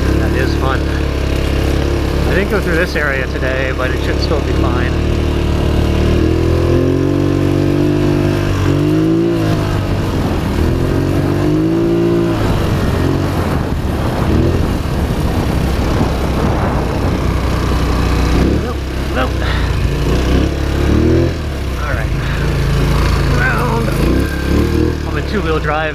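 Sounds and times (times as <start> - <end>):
atv engine revving: 0.0 - 25.9.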